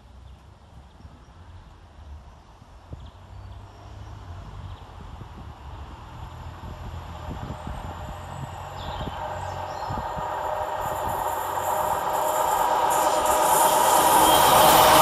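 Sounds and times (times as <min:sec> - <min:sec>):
diesel train approaching: 0:01.3 - 0:15.0.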